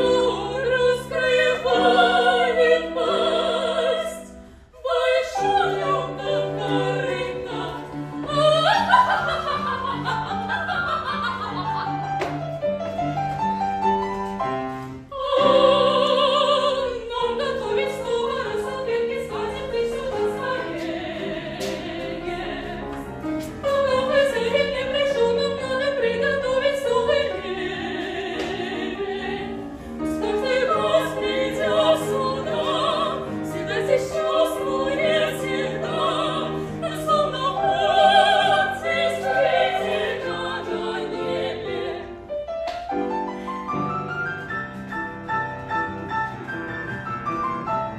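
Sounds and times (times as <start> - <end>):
operatic singing with vibrato: 0.0 - 12.3, 15.0 - 42.4
piano accompaniment: 0.0 - 47.9.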